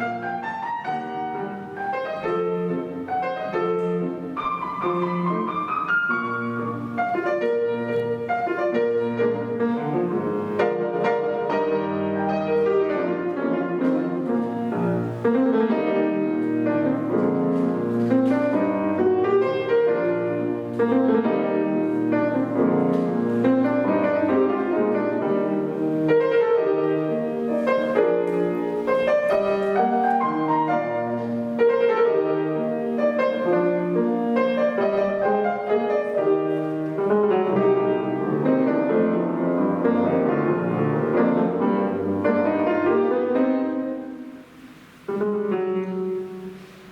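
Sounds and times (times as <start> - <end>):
classical piano piece: 0.0 - 46.9.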